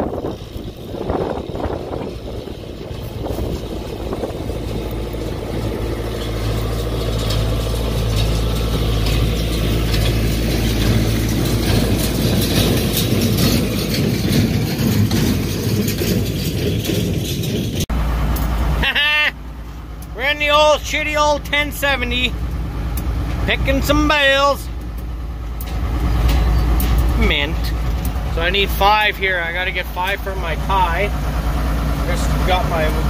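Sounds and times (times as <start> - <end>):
machinery clatter: 0.0 - 19.0, 19.6 - 33.0
tractor engine running: 0.0 - 33.0.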